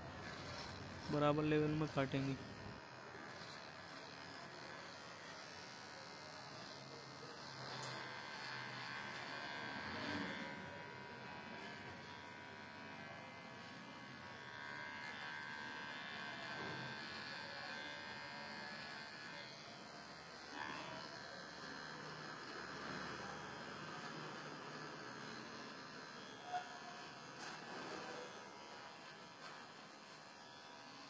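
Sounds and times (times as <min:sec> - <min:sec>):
beard trimmer buzzing: 0:00.0 - 0:31.0.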